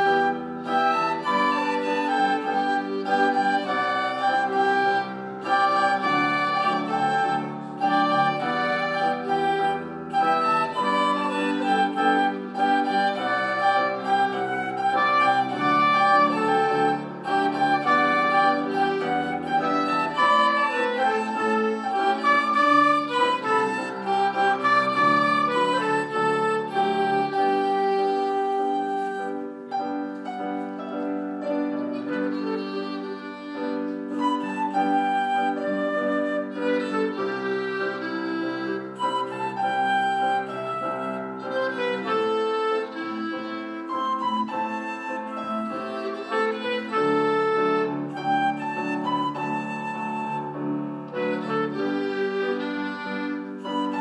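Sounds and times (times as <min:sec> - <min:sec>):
flute: 0:00.0 - 0:54.0
piano: 0:00.0 - 0:54.0
violin: 0:00.0 - 0:54.0
woodwind: 0:00.0 - 0:54.0.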